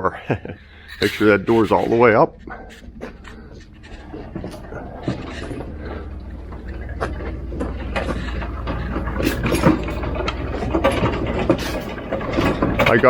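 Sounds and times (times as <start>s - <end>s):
steady low hum: 0.0s - 13.0s
metal cart clattering and knocking: 0.7s - 13.0s.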